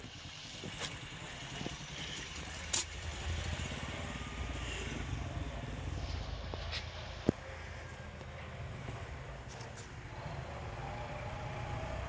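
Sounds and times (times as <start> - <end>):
engine rumbling at low speed: 0.0 - 12.0.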